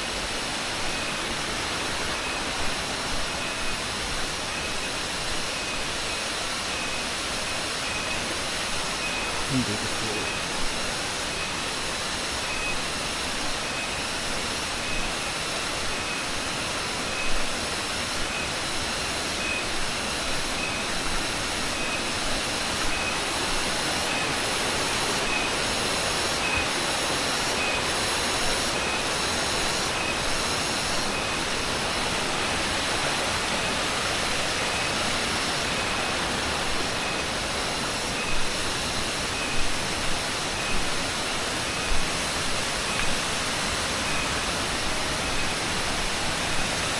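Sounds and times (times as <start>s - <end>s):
insects calling in pulses: 0.0s - 46.9s
waterfall roaring: 0.0s - 46.9s.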